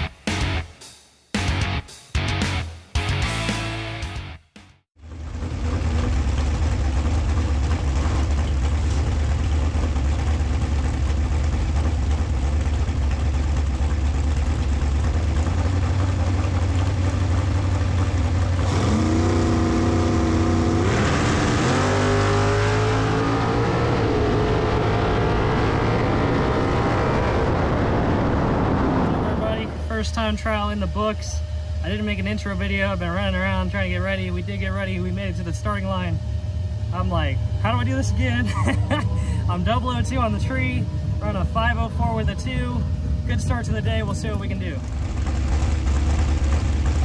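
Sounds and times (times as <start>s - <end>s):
dragster engine rumbling and accelerating: 5.0s - 47.0s.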